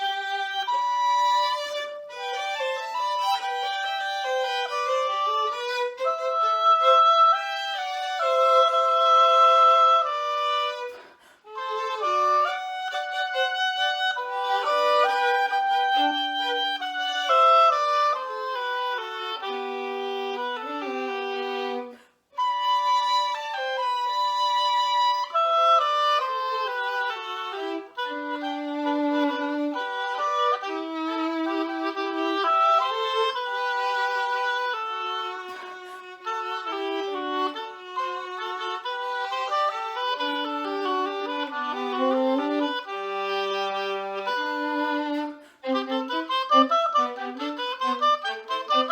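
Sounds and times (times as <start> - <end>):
classical instrumental duet: 0.0 - 48.9.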